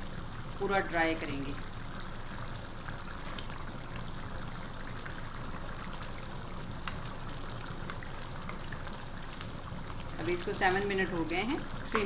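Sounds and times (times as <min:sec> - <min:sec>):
gravy bubbling and popping: 0:00.0 - 0:12.0.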